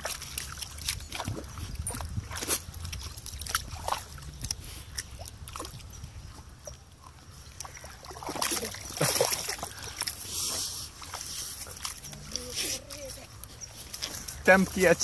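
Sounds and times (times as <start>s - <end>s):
dog splashing in water: 0.0s - 15.0s.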